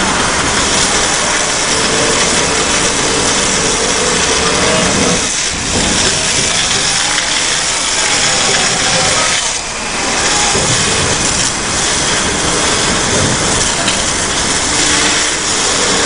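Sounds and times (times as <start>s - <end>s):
engine running: 0.0s - 16.0s
high-pressure water jet hissing: 0.0s - 16.0s.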